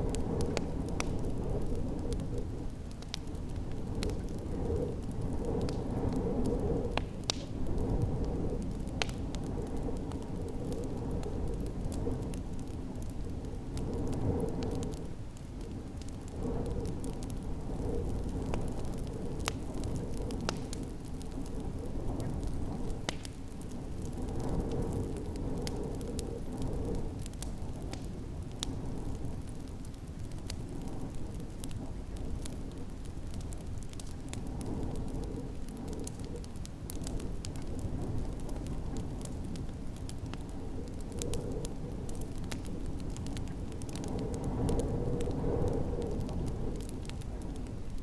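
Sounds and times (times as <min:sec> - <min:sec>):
snowstorm wind rumbling: 0:00.0 - 0:48.0
wood fire crackling and popping: 0:00.0 - 0:48.0.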